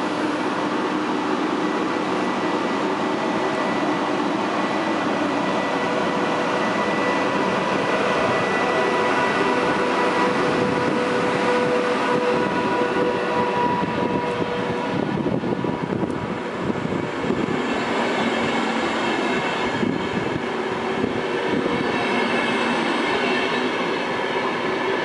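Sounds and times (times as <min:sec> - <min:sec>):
electric locomotive whine: 0:00.0 - 0:25.0
train wheels rumbling on rails: 0:00.0 - 0:25.0.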